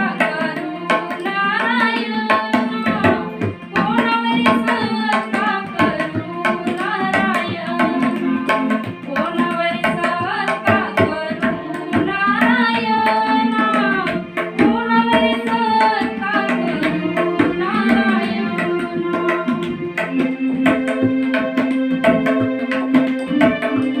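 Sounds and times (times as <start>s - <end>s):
person singing: 0.0s - 21.2s
tabla strokes: 0.0s - 24.0s.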